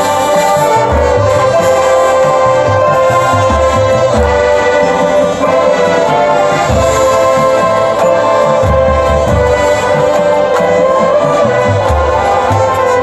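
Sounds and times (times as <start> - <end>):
brass chords: 0.0 - 13.0.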